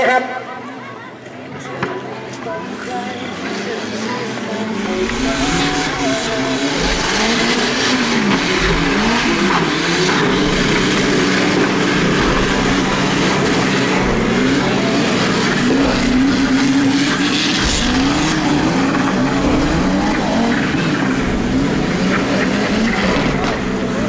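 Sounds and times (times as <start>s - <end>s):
vehicles churning through mud: 1.2s - 24.0s
buggy engines revving: 2.3s - 24.0s.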